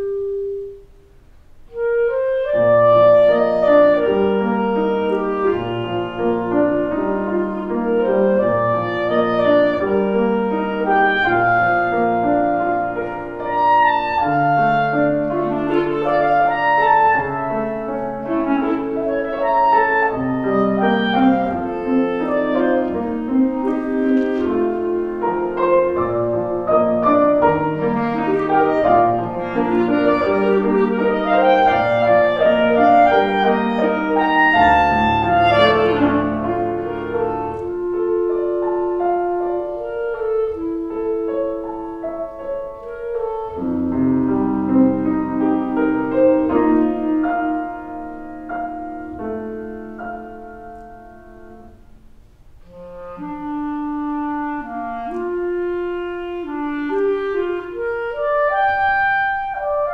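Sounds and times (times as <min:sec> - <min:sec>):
clarinet and piano duet: 0:00.0 - 0:59.9.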